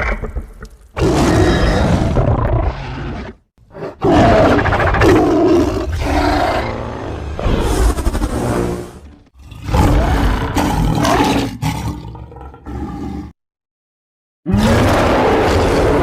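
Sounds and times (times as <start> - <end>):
monster roar: 1.0 - 13.3, 14.5 - 16.0.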